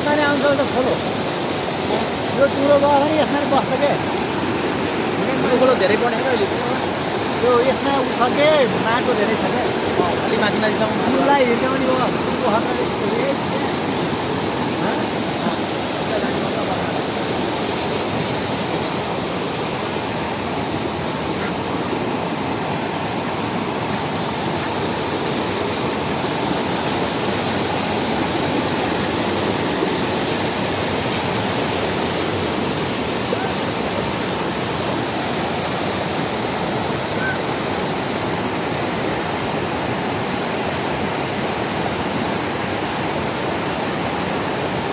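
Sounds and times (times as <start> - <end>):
river rushing: 0.0 - 44.9.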